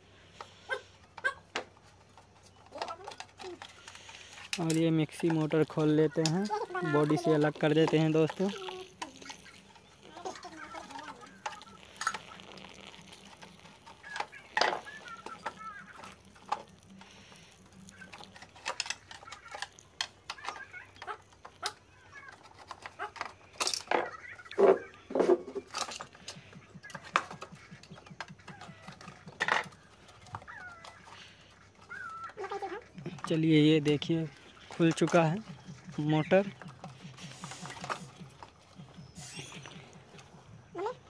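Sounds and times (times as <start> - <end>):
hens clucking: 0.4 - 41.0
screwdriver and metal parts clicking: 0.4 - 41.0.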